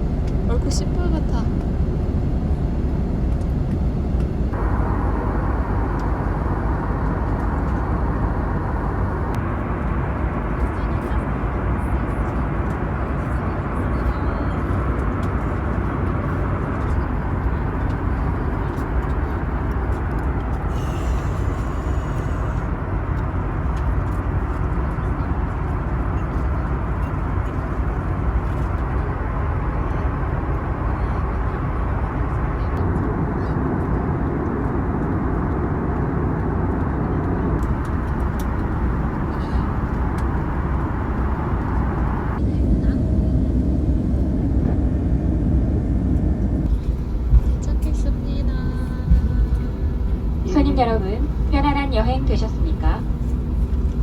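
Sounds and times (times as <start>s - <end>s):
airliner cabin engine rush: 0.0s - 54.0s.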